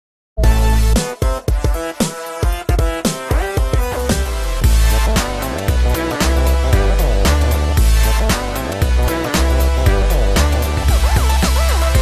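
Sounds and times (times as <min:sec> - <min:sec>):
intro music with chord stabs: 0:00.4 - 0:12.0.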